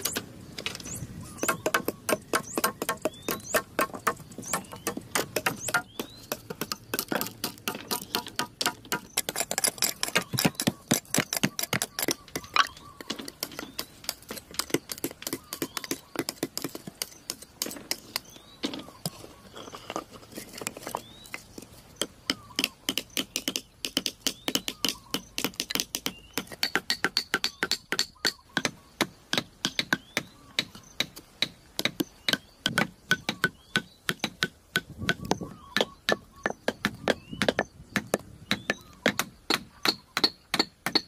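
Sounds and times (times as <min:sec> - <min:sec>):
sharp taps and knocks: 0:00.0 - 0:19.2, 0:22.0 - 0:41.0.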